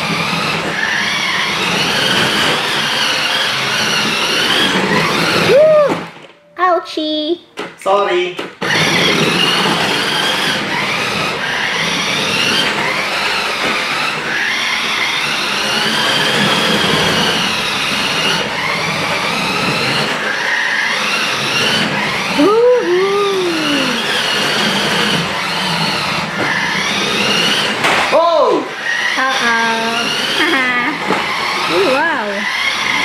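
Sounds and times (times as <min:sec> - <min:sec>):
toy car electric motor whining: 0:00.0 - 0:06.3, 0:08.4 - 0:33.0.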